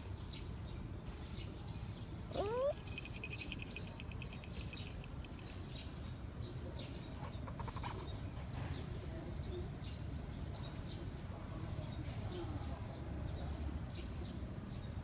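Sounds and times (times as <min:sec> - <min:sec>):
low background noise: 0:00.0 - 0:15.0
small birds chirping: 0:00.0 - 0:15.0.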